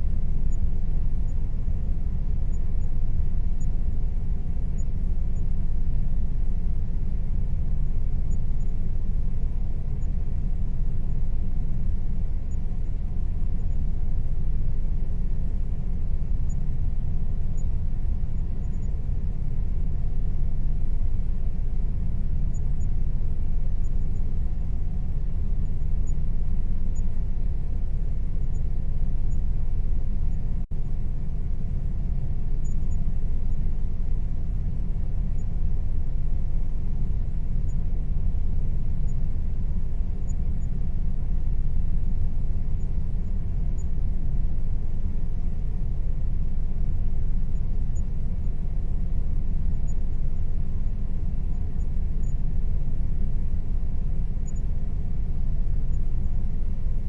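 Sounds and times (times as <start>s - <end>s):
faint steady tone: 0.0s - 57.0s.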